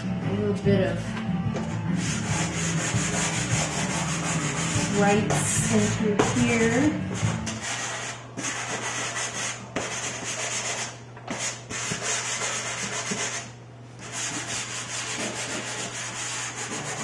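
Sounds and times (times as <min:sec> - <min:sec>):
pastel stick scraping paper: 0:02.0 - 0:17.0.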